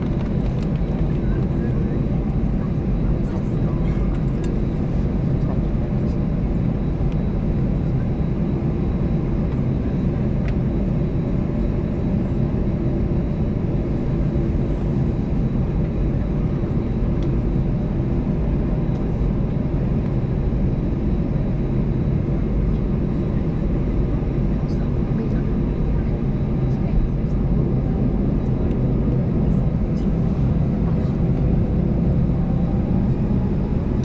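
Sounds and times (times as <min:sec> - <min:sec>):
airplane cabin engine drone: 0:00.0 - 0:34.0.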